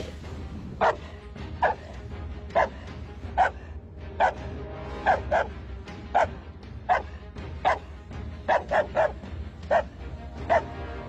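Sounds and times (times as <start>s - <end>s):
dog barking: 0.8s - 11.0s.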